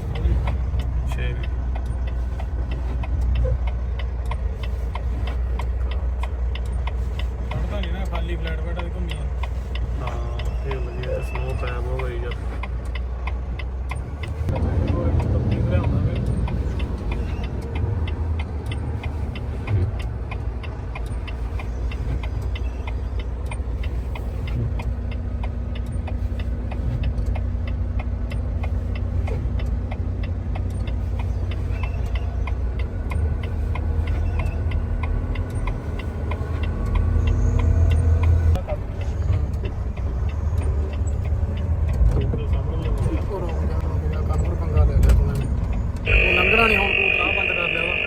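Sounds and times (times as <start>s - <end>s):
diesel engine rumbling: 0.0s - 48.0s.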